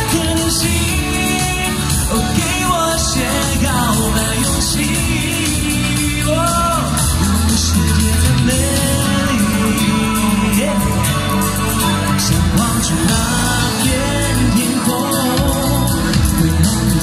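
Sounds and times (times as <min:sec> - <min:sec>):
man singing pop song: 0:00.0 - 0:17.0
musical accompaniment: 0:00.0 - 0:17.0.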